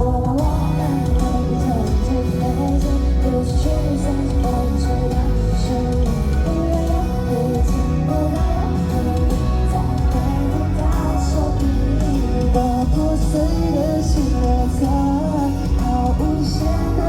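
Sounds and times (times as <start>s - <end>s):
person singing: 0.0s - 17.0s
pop backing music with guitar: 0.0s - 17.0s.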